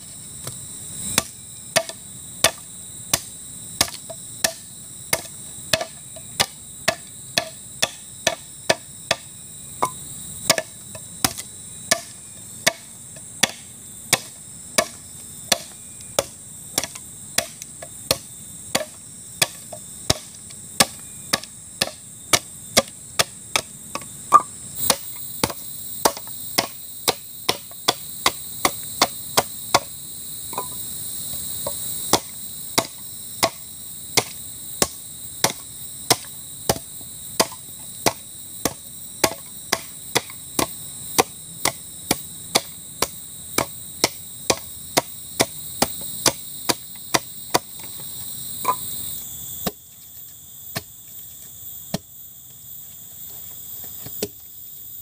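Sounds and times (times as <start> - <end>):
insects buzzing: 0.0 - 55.0
machete chopping wood: 0.4 - 30.0, 31.6 - 48.0, 50.7 - 50.9.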